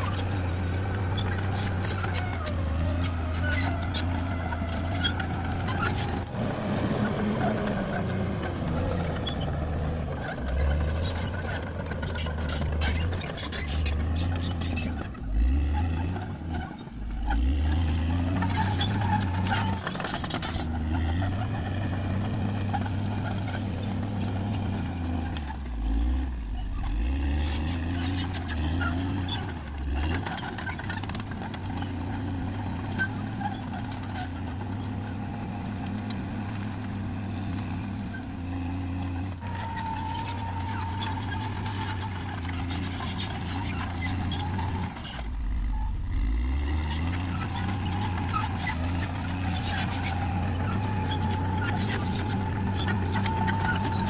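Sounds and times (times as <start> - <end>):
bulldozer diesel engine: 0.0 - 54.0
steel tracks clanking and squealing: 0.0 - 54.0.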